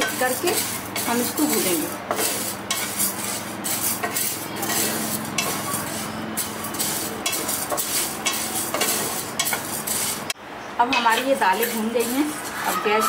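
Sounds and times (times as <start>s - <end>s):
grains rattling and scraping in pan: 0.0s - 10.4s, 11.2s - 13.0s.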